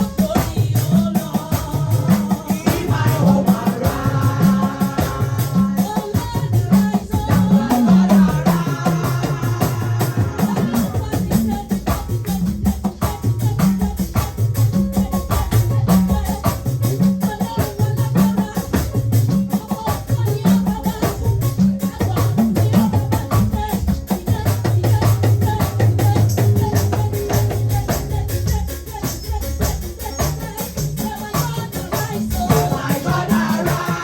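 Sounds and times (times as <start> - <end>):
bass line: 0.0 - 19.4, 20.1 - 34.0
drums: 0.0 - 34.0
gospel band instrumental: 0.0 - 34.0.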